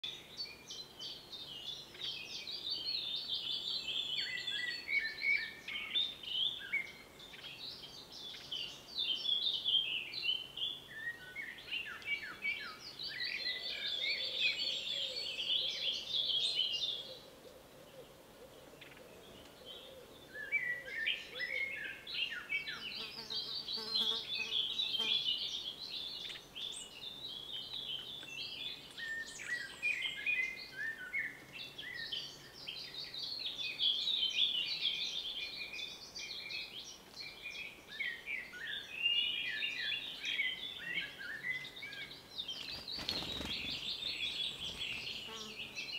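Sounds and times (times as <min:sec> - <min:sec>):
songbirds chirping and singing: 0:00.0 - 0:45.9.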